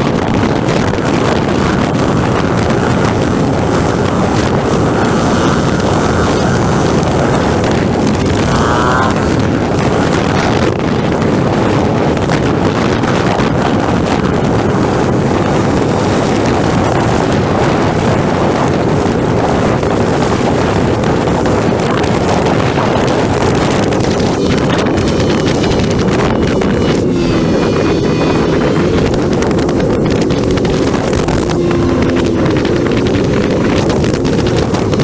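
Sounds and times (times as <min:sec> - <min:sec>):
motorcycle engine running: 0:00.0 - 0:35.0
wind rush: 0:00.0 - 0:35.0.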